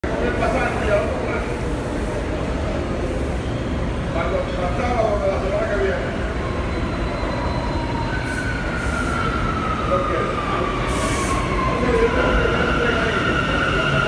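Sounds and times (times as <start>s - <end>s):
subway train rumble and whine: 0.0s - 14.0s.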